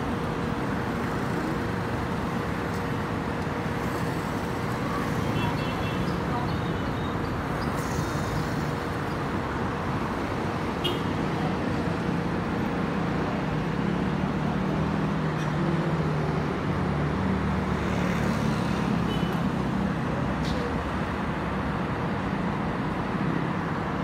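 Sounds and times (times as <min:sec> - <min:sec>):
passing cars and motorcycles: 0:00.0 - 0:24.0.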